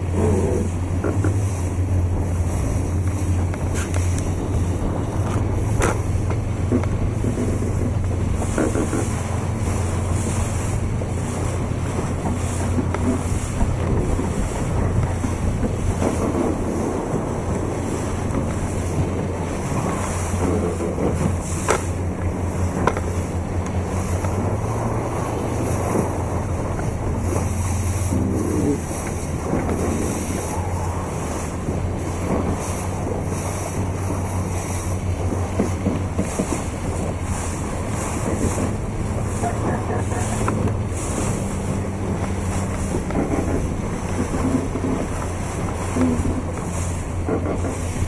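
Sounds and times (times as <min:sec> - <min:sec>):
waves and spray washing: 0:00.0 - 0:48.0
wind buffeting microphone: 0:00.0 - 0:48.0.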